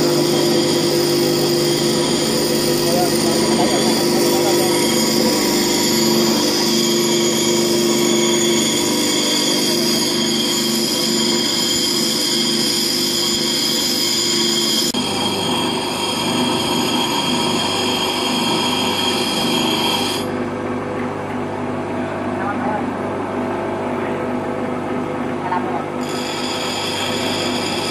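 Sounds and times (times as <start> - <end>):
bench grinder whine: 0.0 - 20.6, 23.2 - 27.9.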